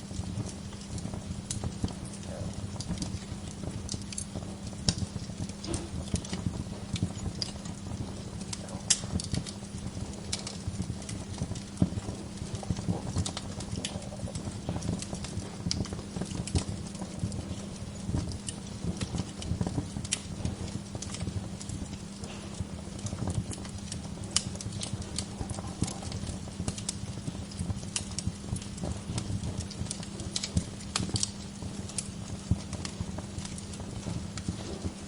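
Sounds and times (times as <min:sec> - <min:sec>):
low rumble of burning logs: 0:00.0 - 0:35.0
wood fire pops and snaps: 0:00.0 - 0:35.0.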